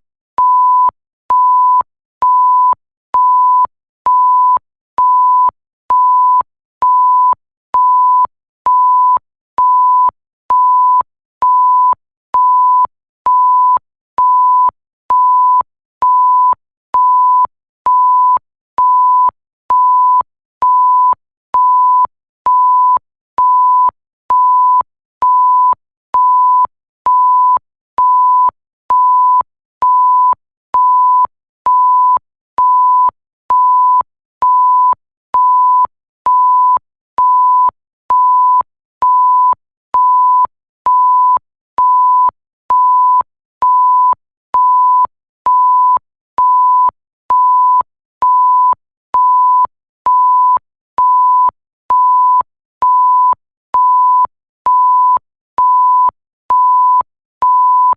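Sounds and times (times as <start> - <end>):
censor bleep tone: 0.4 - 57.9.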